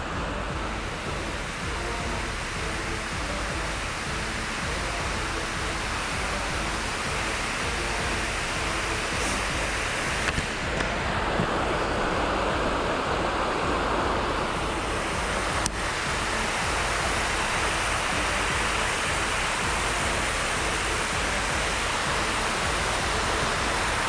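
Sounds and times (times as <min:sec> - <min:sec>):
stream water flowing: 0:00.0 - 0:24.0.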